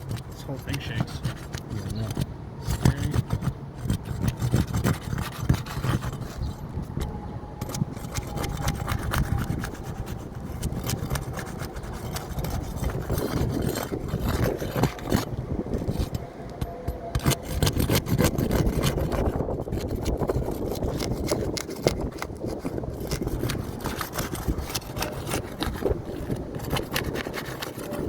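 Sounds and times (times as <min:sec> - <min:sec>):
gritty rubbing of shingles: 0:00.0 - 0:28.0
tool scraping under shingles: 0:00.0 - 0:28.0.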